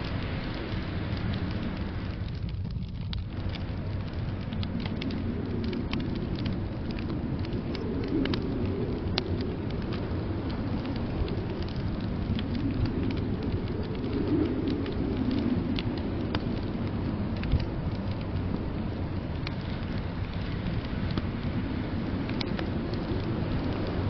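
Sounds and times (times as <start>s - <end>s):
blizzard wind rushing: 0.0s - 24.0s
wood fire crackling and popping: 0.0s - 24.0s.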